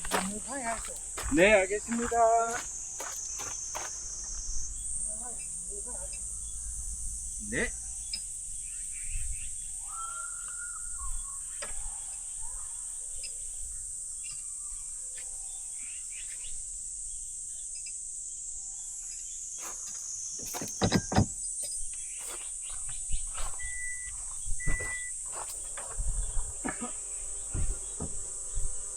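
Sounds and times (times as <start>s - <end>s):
high-pitched insect chorus: 0.0s - 28.9s.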